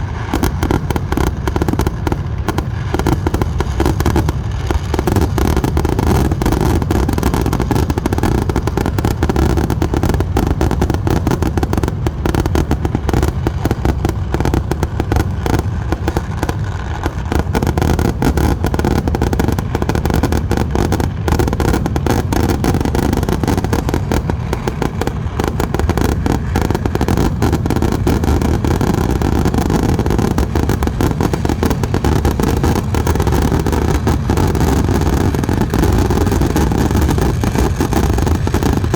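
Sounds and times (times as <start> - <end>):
fireworks cracking and banging: 0.0 - 38.9.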